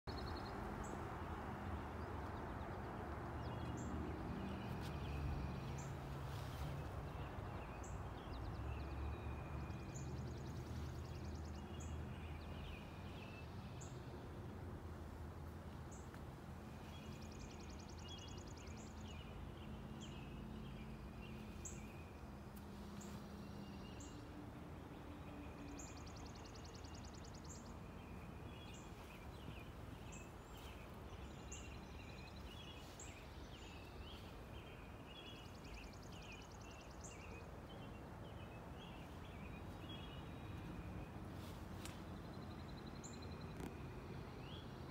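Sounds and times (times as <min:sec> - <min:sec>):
birds chirping: 0:00.1 - 0:14.3, 0:15.6 - 0:44.9
low background noise: 0:00.1 - 0:44.9.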